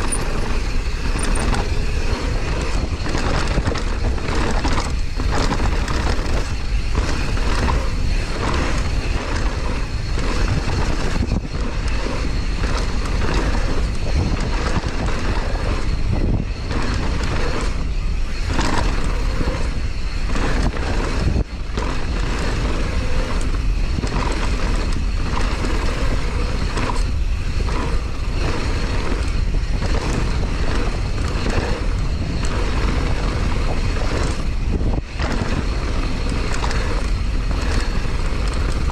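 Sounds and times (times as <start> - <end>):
bike clattering over bumps: 0.0 - 38.9
tyres rushing on dirt: 0.0 - 38.9
wind buffeting microphone: 0.0 - 38.9.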